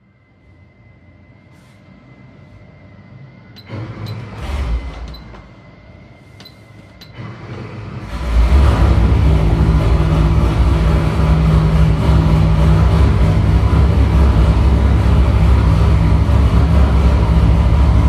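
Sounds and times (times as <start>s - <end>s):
engine running loud and steady: 1.5s - 18.0s.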